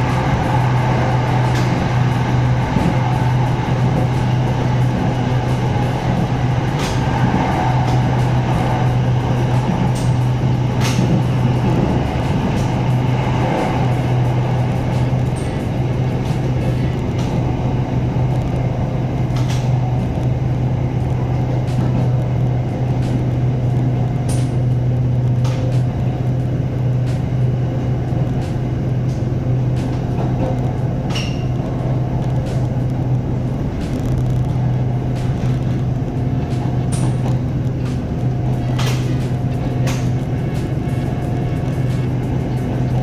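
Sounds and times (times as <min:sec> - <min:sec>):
train carriage hum and rumble: 0:00.0 - 0:43.0.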